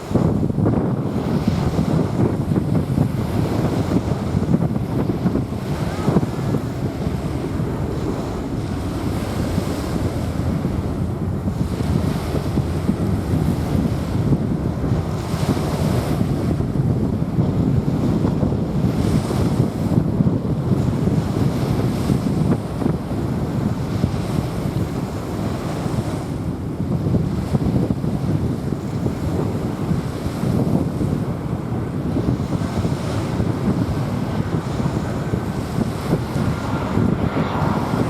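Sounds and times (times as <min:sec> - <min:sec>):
small waves washing on beach: 0:00.0 - 0:38.0
wind rumble on microphone: 0:00.0 - 0:38.0.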